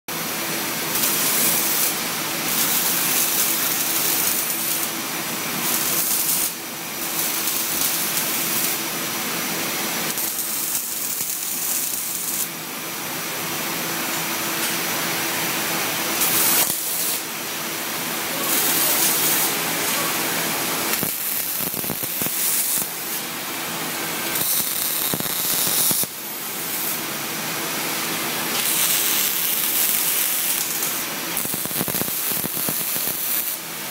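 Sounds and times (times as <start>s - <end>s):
welding arc crackling: 0.8s - 12.6s, 14.0s - 33.9s.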